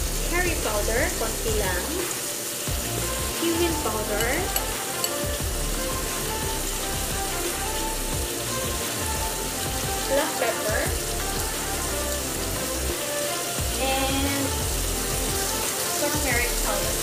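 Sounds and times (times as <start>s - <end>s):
background music: 0.0s - 17.0s
spices sizzling in a pot: 0.0s - 17.0s.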